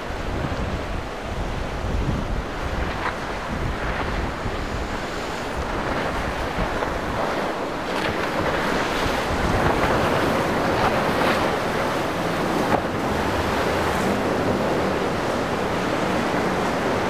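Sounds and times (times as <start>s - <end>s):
breaking surf: 0.0s - 17.0s
outboard engines of speeding boat: 0.0s - 17.0s
wind buffeting microphone: 0.0s - 17.0s.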